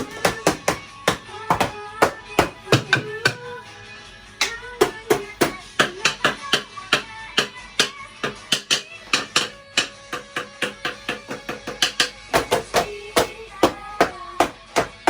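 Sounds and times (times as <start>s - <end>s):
rapid hammering: 0.0s - 3.6s, 4.4s - 15.0s
background music: 0.0s - 15.0s.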